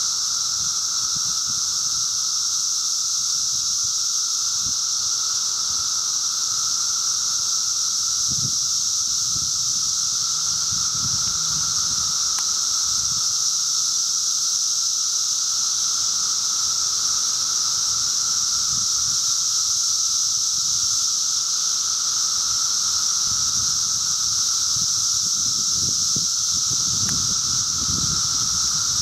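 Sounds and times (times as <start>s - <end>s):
cicadas droning: 0.0s - 29.0s.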